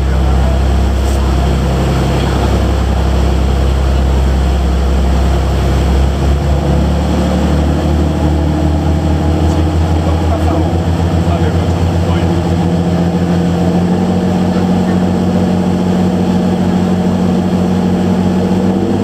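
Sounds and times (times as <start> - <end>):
boat engine running: 0.0 - 19.0
water along the hull: 0.0 - 19.0.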